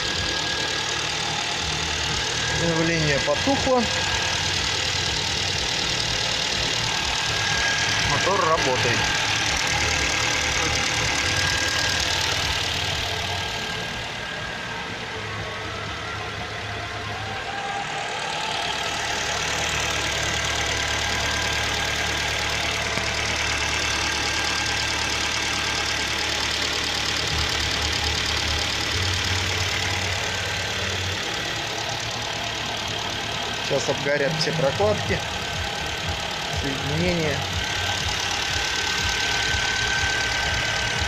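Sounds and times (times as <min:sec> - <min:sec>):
car engine running: 0:00.0 - 0:41.0.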